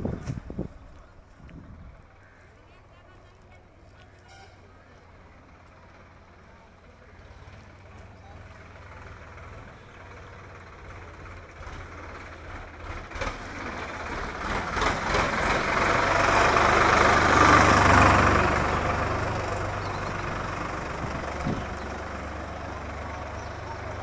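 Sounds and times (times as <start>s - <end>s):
vehicle passing by: 4.4s - 24.0s.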